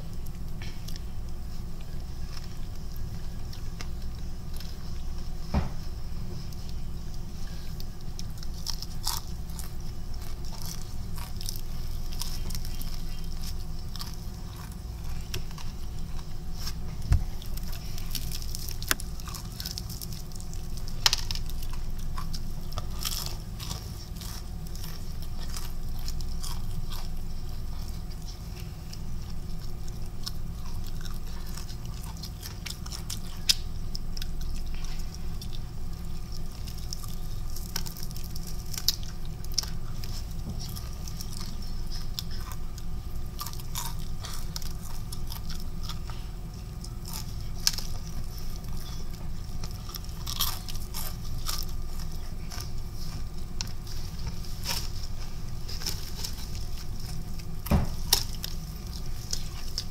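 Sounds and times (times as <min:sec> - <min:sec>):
chewing crispy fried chicken: 0:00.0 - 0:59.9
steady low hum: 0:00.0 - 0:59.9.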